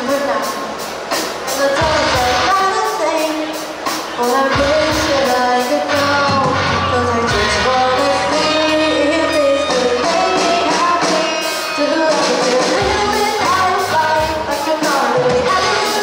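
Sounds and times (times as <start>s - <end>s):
woman singing: 0.0s - 0.7s, 1.5s - 3.6s, 4.2s - 16.0s
live rock band playing: 0.0s - 16.0s.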